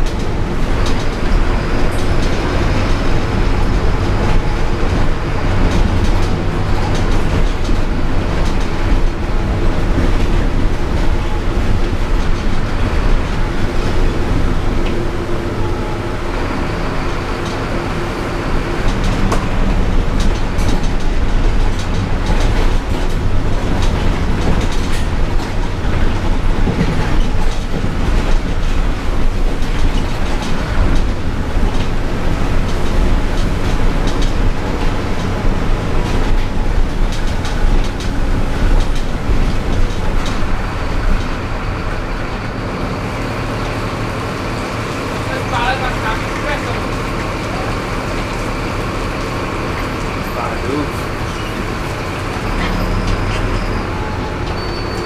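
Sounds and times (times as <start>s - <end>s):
bus body rattling: 0.0s - 55.0s
bus diesel engine running: 0.0s - 55.0s
tyres on wet street: 0.0s - 55.0s.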